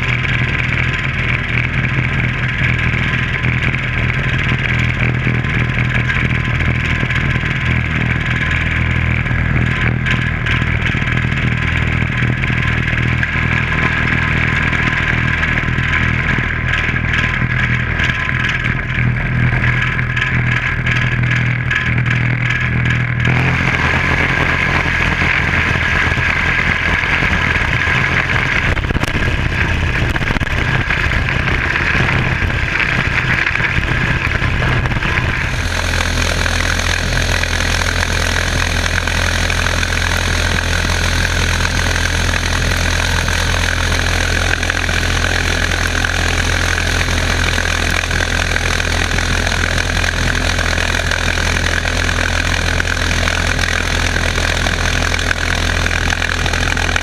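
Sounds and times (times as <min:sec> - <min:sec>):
pulse jet engine drone: 0:00.0 - 0:57.0.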